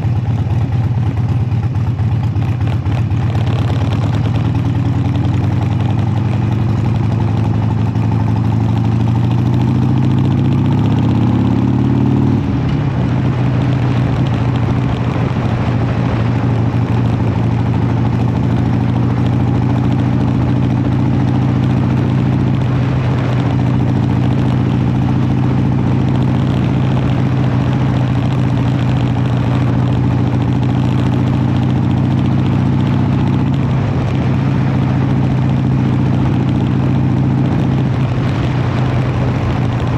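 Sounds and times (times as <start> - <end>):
motorcycle engine shifting gear: 0.0 - 39.9.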